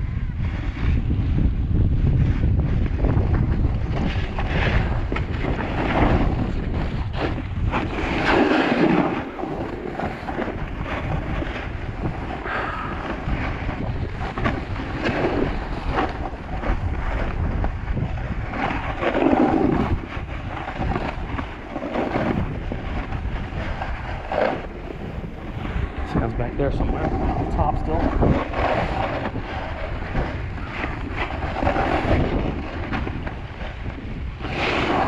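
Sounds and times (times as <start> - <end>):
wind on microphone: 0.0 - 35.0
skis scraping on snow: 2.2 - 35.0.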